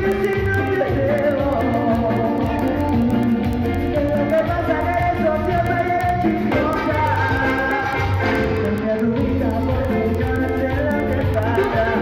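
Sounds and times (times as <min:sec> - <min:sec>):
bass line: 0:00.0 - 0:12.0
drums keeping even beat: 0:00.0 - 0:12.0
man singing into microphone: 0:00.0 - 0:12.0.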